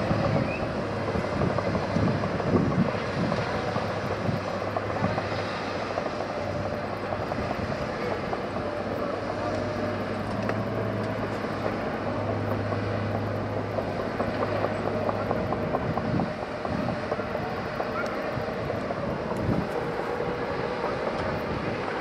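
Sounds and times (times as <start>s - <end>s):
diesel machinery engines droning: 0.0s - 22.0s.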